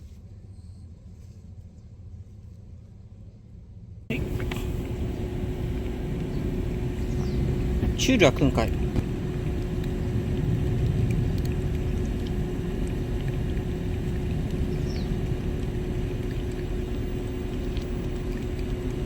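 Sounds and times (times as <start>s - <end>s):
low mechanical rumble with hum: 0.0s - 19.0s.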